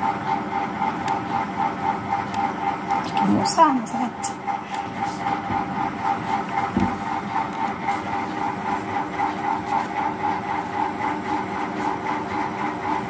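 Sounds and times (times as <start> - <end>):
pulsing machine hum: 0.0 - 13.0.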